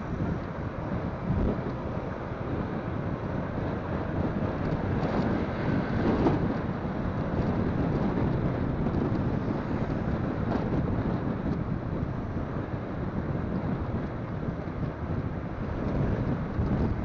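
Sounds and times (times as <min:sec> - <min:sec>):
motorcycle running: 0:00.0 - 0:17.0
wind buffeting microphone: 0:00.0 - 0:17.0.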